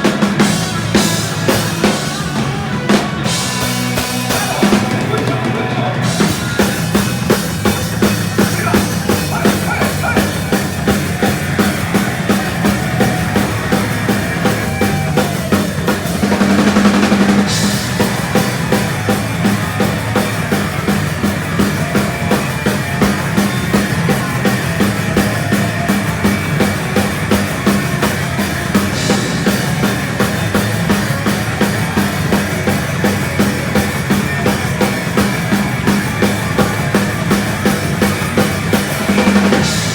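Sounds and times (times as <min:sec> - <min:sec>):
fast drum beat: 0:00.0 - 0:39.9
speed metal band playing live: 0:00.0 - 0:39.9.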